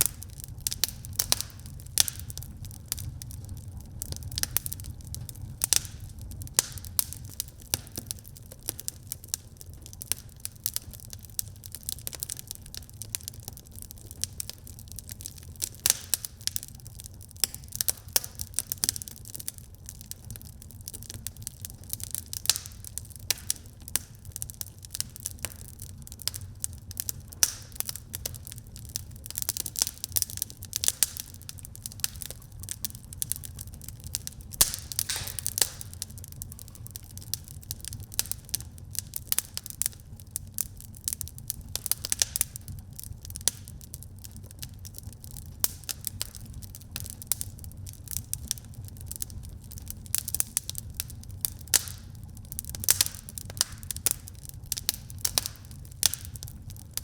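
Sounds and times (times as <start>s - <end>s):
fire crackling in fireplace: 0.0s - 57.0s.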